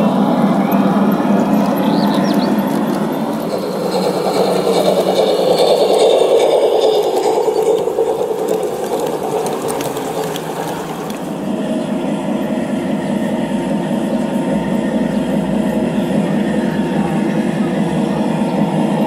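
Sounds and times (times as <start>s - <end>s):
model locomotive motor whirring: 0.0s - 19.0s
train wheels clicking over rails: 0.0s - 19.0s.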